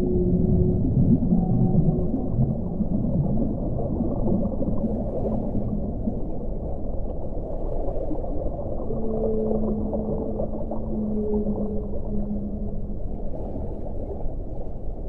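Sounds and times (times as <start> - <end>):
long low steady tone: 0.0 - 7.2, 8.5 - 15.0
muffled underwater rush: 0.0 - 15.0.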